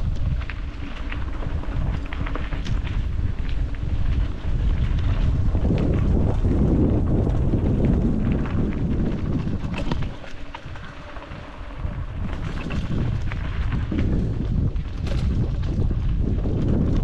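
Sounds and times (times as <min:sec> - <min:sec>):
bicycle clicks and rattles: 0:00.0 - 0:17.0
wind buffeting microphone: 0:00.0 - 0:17.0.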